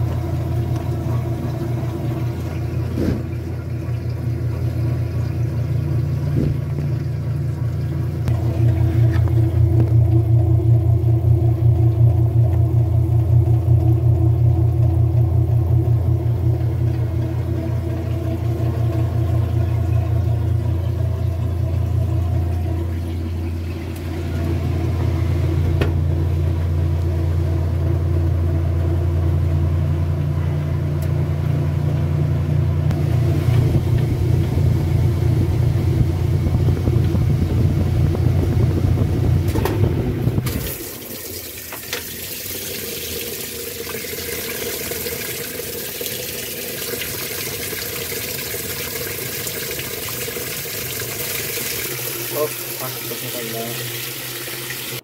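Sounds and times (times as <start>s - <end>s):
water spraying into tub: 0.0s - 28.1s, 32.9s - 55.0s
washing machine motor hum: 0.0s - 55.0s.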